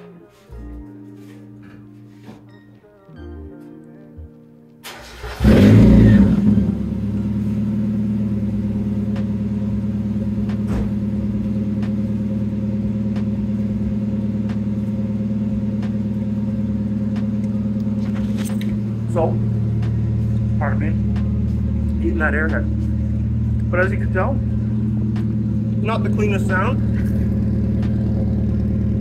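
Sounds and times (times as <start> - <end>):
car engine starting and idling: 4.8 - 29.0.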